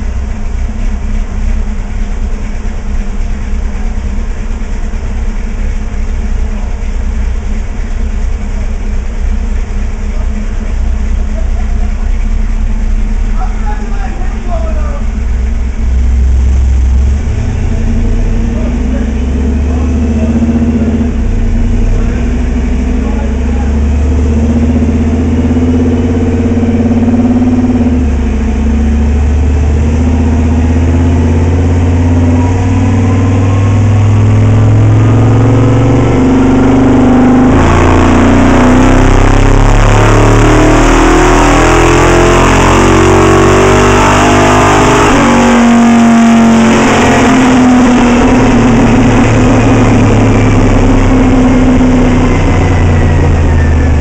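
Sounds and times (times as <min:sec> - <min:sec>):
car engine revving on dyno: 0:00.0 - 0:54.0.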